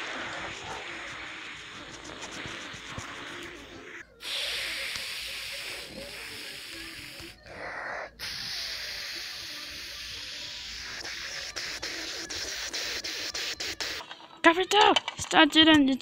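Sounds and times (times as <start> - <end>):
person hissing shhh: 0.0 - 14.1.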